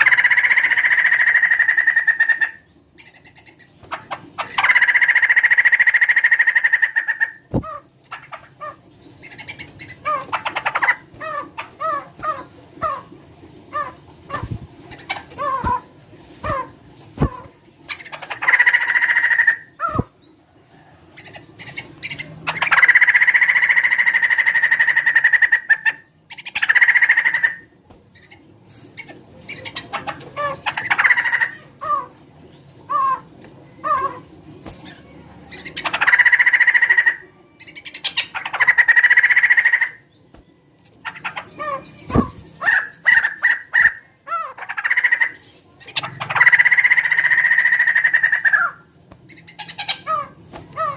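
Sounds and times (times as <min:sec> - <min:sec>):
bird calling harshly: 0:00.0 - 0:03.2, 0:03.9 - 0:13.1, 0:13.7 - 0:20.1, 0:22.0 - 0:27.7, 0:29.5 - 0:32.2, 0:32.9 - 0:40.1, 0:41.0 - 0:50.9.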